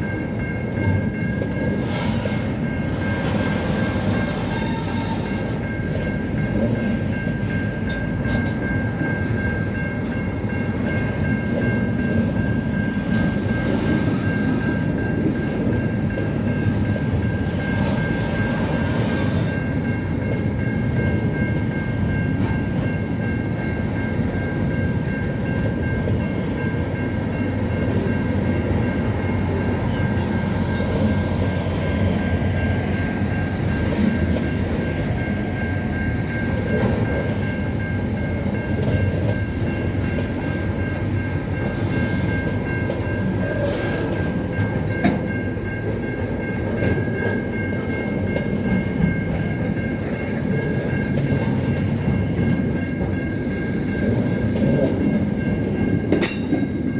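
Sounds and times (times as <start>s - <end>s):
train rumbling: 0.0s - 56.9s.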